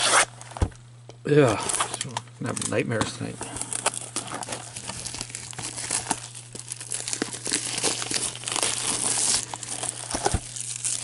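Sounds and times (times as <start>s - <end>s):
steady low hum: 0.0s - 11.0s
plastic shrink wrap crinkling: 1.5s - 11.0s.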